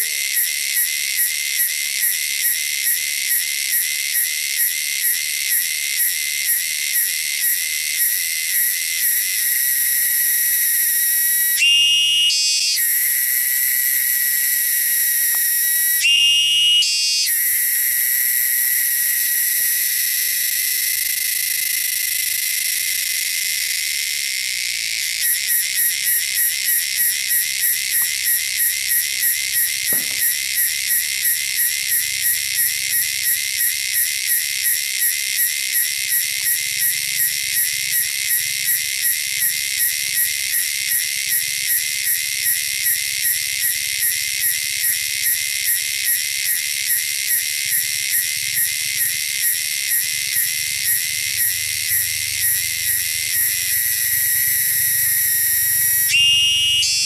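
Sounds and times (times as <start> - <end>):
cicada calling shrilly: 0.0 - 57.0.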